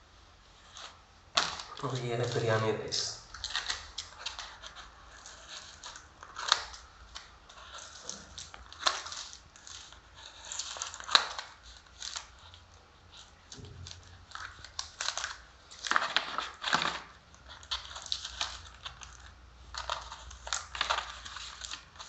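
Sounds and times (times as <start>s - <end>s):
food packaging crinkling: 0.8s - 22.0s.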